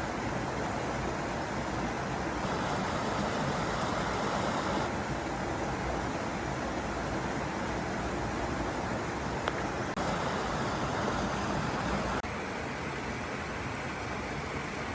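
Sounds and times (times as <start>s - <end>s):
stream water flowing: 0.1s - 13.8s.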